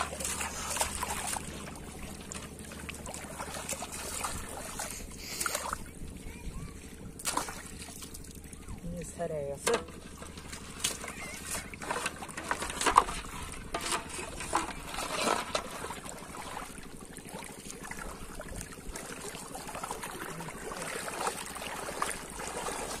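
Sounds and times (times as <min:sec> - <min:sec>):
water splashing and sloshing: 0:00.0 - 0:23.0.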